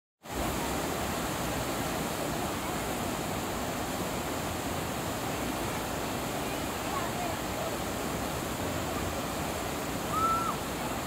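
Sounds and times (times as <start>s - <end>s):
river rapids rushing over boulders: 0.2s - 11.0s.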